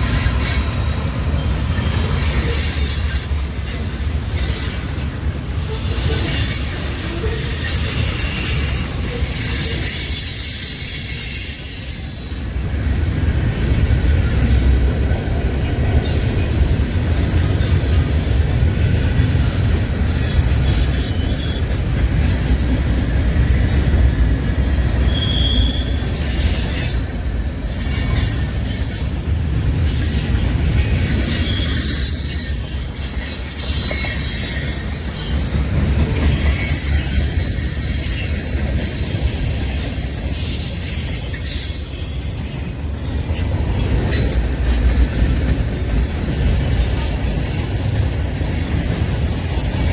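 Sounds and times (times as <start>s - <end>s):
wheel squeals: 0.0s - 12.6s, 19.3s - 29.3s, 29.9s - 35.6s, 36.2s - 44.9s, 45.9s - 49.9s
train wheels rumbling on rails: 0.0s - 49.9s.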